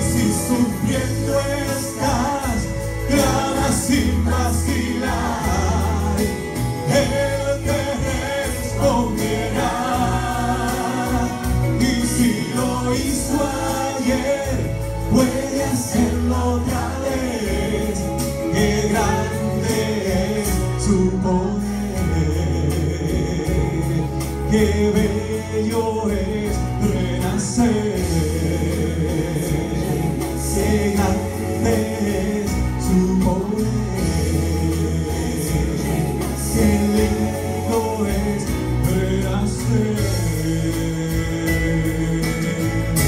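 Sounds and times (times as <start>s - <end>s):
choir backing vocals: 0.0s - 43.0s
gospel music with bass line: 0.0s - 43.0s.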